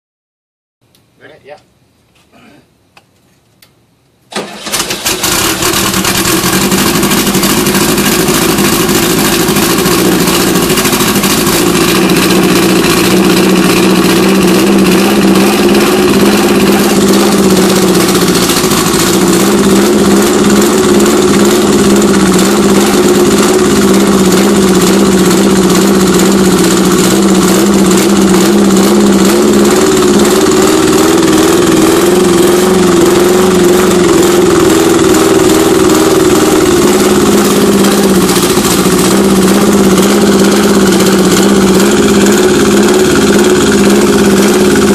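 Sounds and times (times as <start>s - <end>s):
loud car engine running unevenly: 4.4s - 44.9s.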